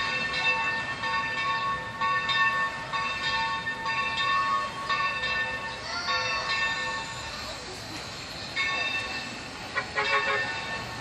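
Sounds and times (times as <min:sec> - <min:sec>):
locomotive bell ringing: 0:00.0 - 0:11.0.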